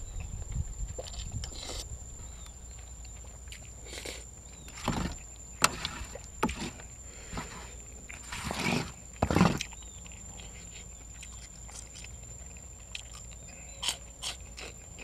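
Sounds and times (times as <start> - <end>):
person chewing and slurping: 0.9 - 1.9, 2.8 - 15.0.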